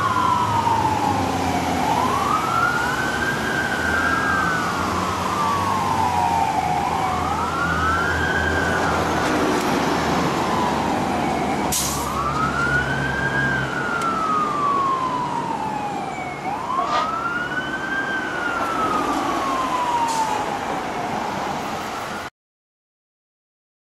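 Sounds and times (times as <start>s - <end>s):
fire engine siren wailing: 0.0s - 22.3s.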